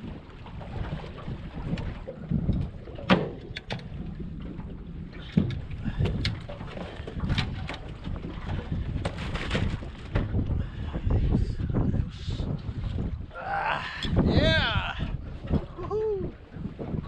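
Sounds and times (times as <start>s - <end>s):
water lapping against boat hull: 0.0s - 17.0s
wind buffeting microphone: 0.0s - 17.0s.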